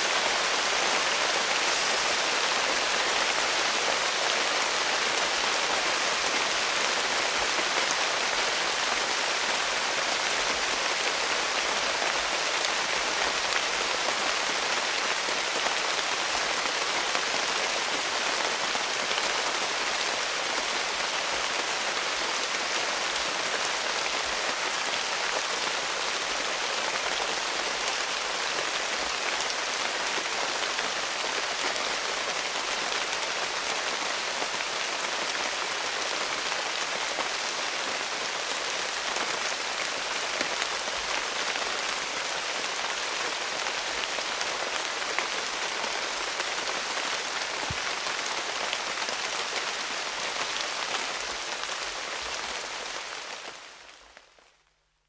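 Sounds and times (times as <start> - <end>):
rain pattering on leaves: 0.0 - 54.7
rain on canopy: 0.0 - 55.0.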